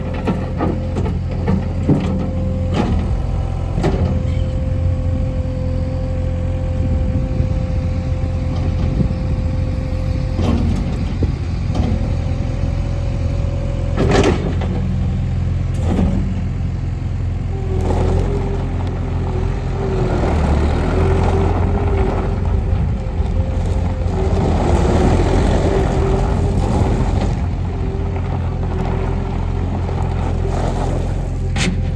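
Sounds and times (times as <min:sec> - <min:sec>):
loader engine running: 0:00.0 - 0:31.9
whine: 0:00.0 - 0:31.9.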